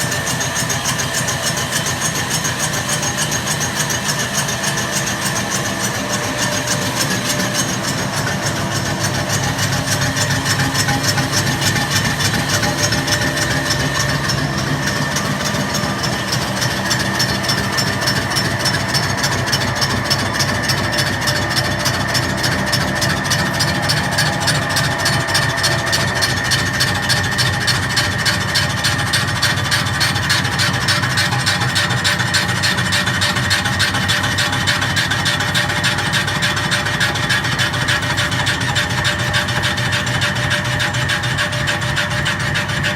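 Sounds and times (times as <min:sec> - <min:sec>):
high machine whine: 0:00.0 - 0:42.9
machine tool cutting metal: 0:00.0 - 0:42.9.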